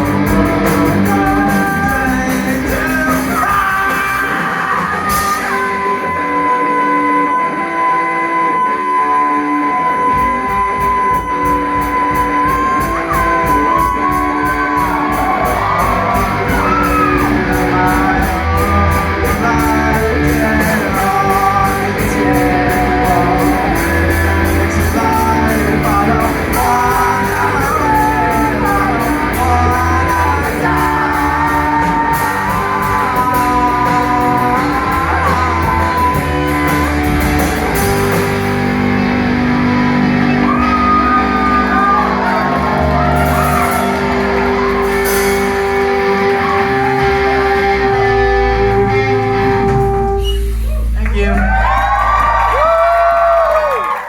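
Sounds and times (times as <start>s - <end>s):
drums with steady cymbal beat: 0.0s - 7.0s, 10.1s - 47.4s, 48.6s - 51.0s
person singing: 0.0s - 51.0s
bass guitar: 0.0s - 54.0s
electric guitar: 0.0s - 54.0s.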